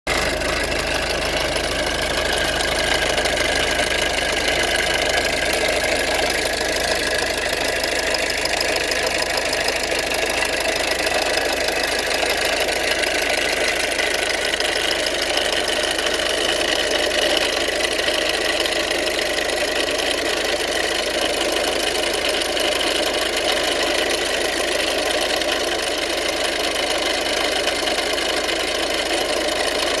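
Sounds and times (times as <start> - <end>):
diesel engine running with rattle: 0.1 - 30.0.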